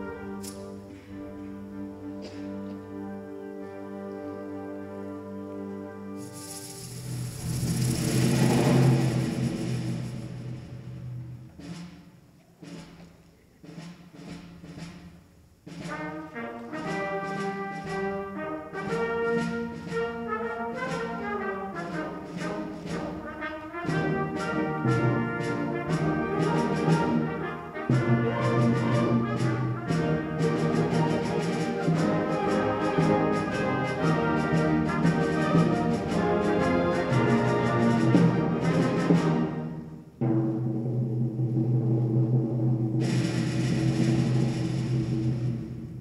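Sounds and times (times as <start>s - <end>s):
brass-led orchestral music: 0.0s - 12.0s, 15.7s - 46.0s.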